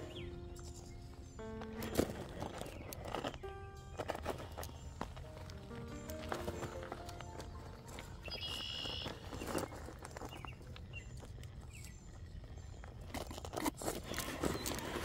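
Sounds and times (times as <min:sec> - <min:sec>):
rock and gravel crunching: 0:00.0 - 0:15.0.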